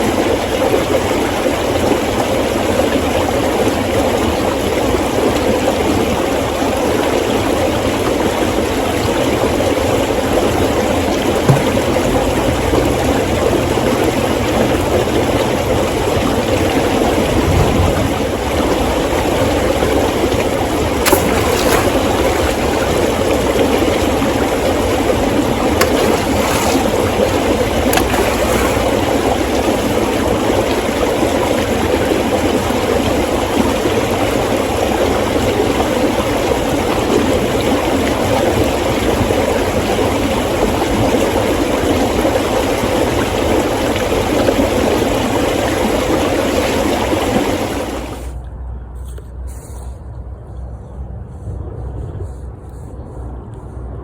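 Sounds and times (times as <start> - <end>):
flowing stream: 0.0 - 48.6.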